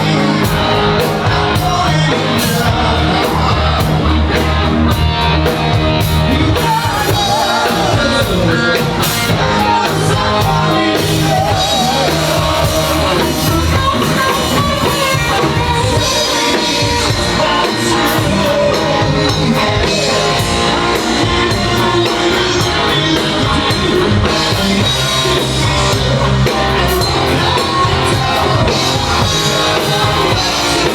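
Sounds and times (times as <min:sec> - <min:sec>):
bass guitar: 0:00.0 - 0:30.9
drum kit: 0:00.0 - 0:30.9
electric guitar: 0:00.0 - 0:30.9
person singing: 0:00.0 - 0:30.9.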